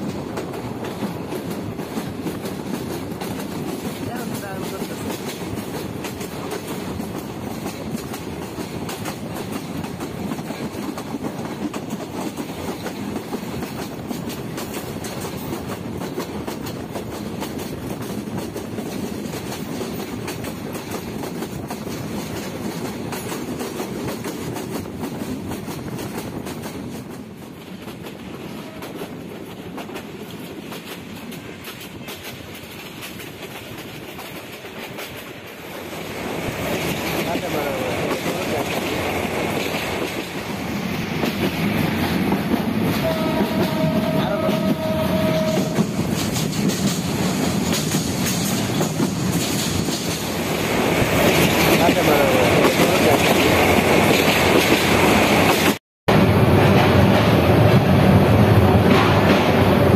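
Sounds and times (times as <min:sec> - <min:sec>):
clickety-clack over rail joints: 0:00.0 - 0:55.8, 0:56.7 - 0:59.9
train wheels rumbling on rails: 0:00.0 - 0:59.9
wind: 0:00.0 - 0:59.9.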